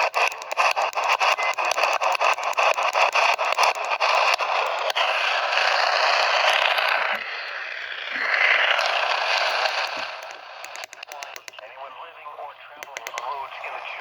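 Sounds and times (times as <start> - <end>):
radio static hiss: 0.0 - 7.4, 8.1 - 14.0
static crackles: 0.0 - 14.0.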